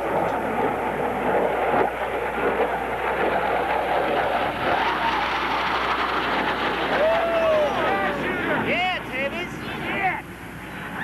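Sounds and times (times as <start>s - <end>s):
jet engine rush: 0.0s - 11.0s.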